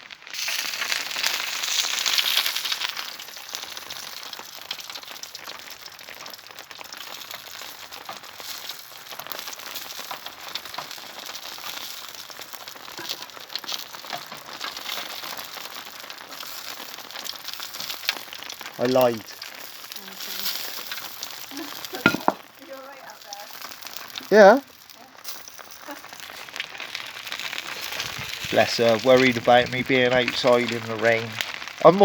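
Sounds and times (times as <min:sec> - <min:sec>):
rain pattering on umbrella: 0:00.0 - 0:32.0.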